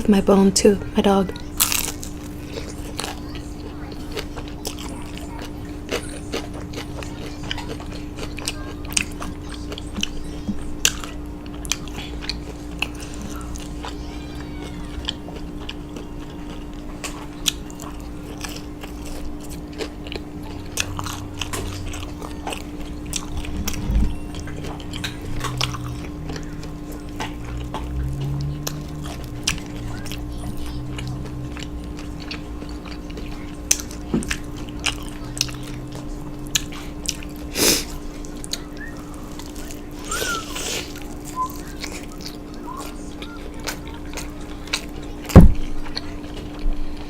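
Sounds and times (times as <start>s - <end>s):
steady low hum: 0.0s - 47.0s
chewing and crunching food: 0.5s - 47.0s.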